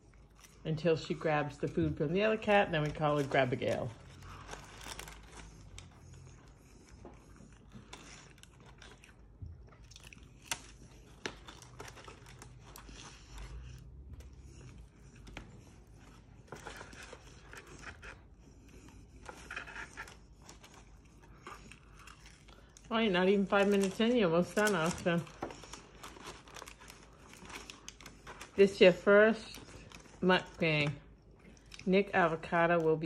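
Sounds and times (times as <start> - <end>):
chewing crunchy fries: 0.0 - 33.0
paper and cardboard crinkling: 0.0 - 33.0.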